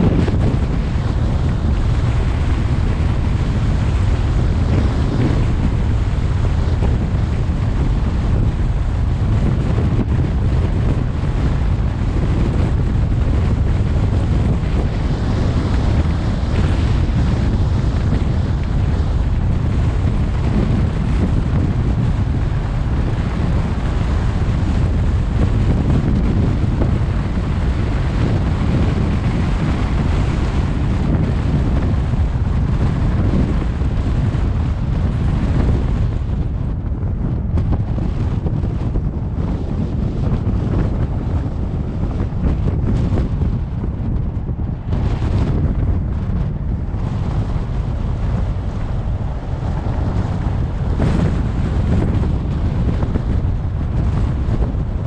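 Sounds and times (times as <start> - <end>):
tyre and road noise: 0.0 - 55.0
wind buffeting microphone: 0.0 - 55.0.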